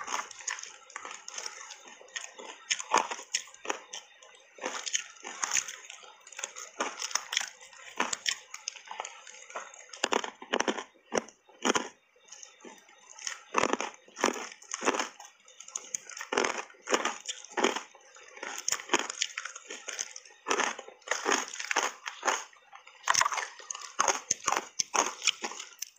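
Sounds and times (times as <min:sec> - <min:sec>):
ice being chewed with crunches: 0:00.0 - 0:25.9.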